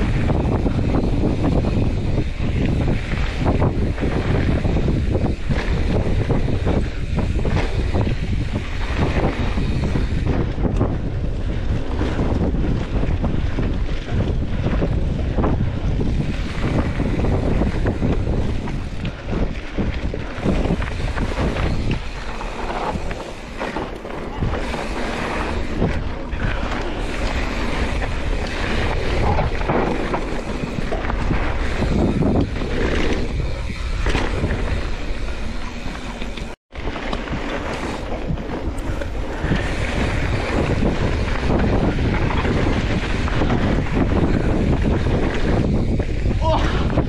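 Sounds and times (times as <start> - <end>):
bike jolting over rough ground: 0.0 - 47.0
wind buffeting microphone: 0.0 - 47.0.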